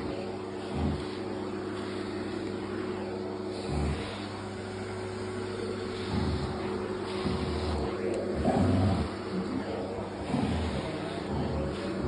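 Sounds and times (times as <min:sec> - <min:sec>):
grooming vacuum motor humming: 0:00.0 - 0:12.0.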